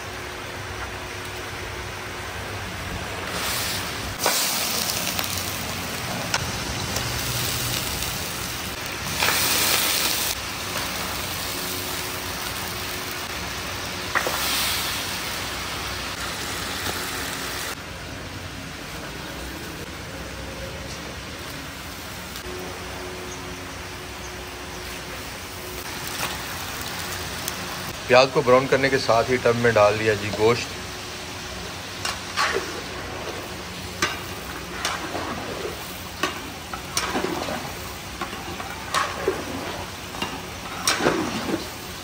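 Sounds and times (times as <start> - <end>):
onions sizzling: 0.1 - 17.9, 18.8 - 42.0.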